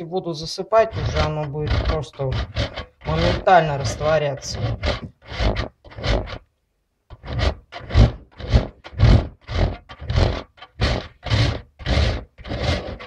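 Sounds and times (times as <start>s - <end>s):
soap scraped on box grater: 0.0s - 6.4s, 7.1s - 13.0s.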